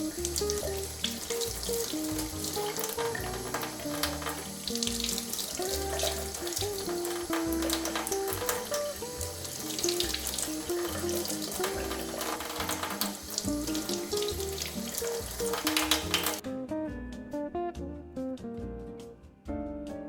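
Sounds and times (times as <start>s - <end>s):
tap running: 0.0s - 16.4s
water splashing over fish: 0.0s - 16.4s.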